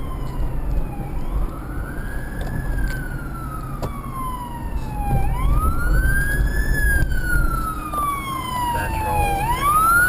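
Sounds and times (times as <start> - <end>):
fire engine siren wailing: 0.0 - 10.0.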